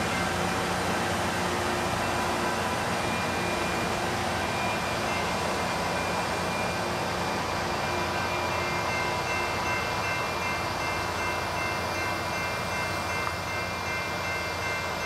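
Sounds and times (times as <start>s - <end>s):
rail grinder rushing drone: 0.0s - 15.0s.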